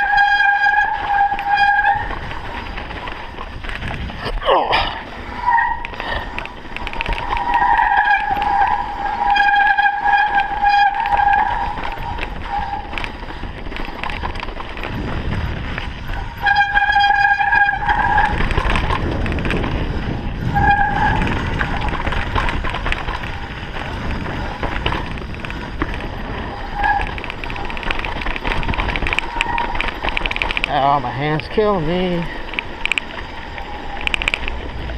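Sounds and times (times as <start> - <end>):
bike brakes squealing: 0.0 - 3.4, 4.2 - 15.1, 15.9 - 34.9
bike clattering: 0.0 - 34.9
wind: 0.0 - 34.9.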